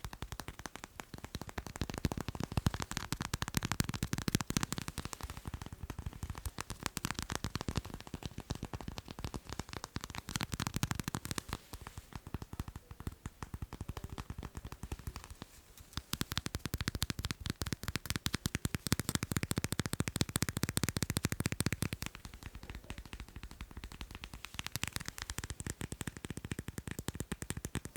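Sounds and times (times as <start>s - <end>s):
fast tapping on macarons: 0.0s - 27.9s.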